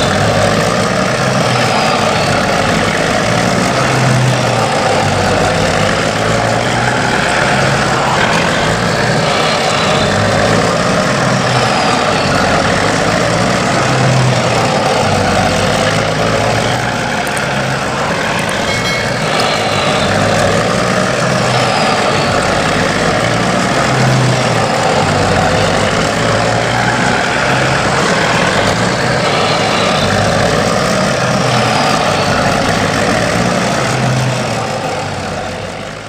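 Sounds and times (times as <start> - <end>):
heavy truck engine rumbling: 0.0 - 36.0.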